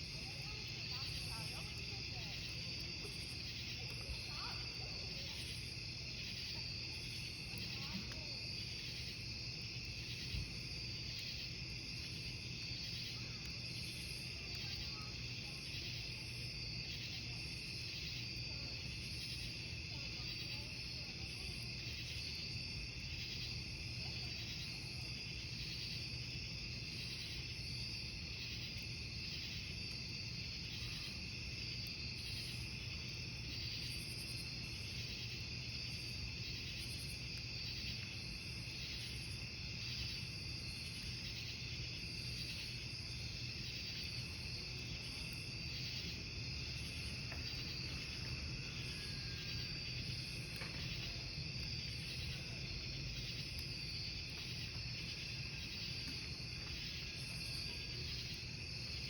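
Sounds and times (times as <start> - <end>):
campfire burning and crackling: 0.0 - 59.0
crickets chirping: 0.0 - 59.0.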